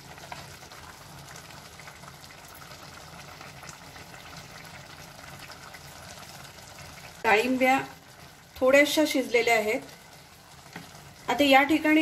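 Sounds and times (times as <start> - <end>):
pot bubbling faintly: 0.0 - 12.0.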